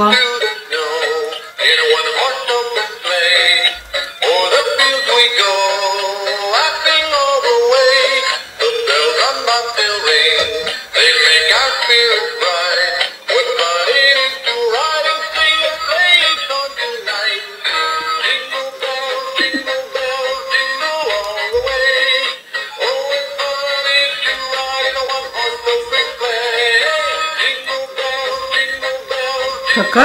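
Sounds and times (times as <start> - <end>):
toy singing over jingly tune: 0.0 - 30.0.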